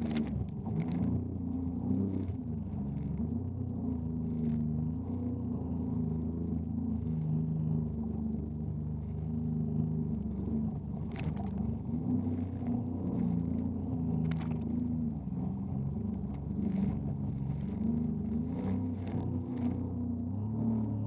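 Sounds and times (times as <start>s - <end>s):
jet ski engine running: 0.0s - 21.0s.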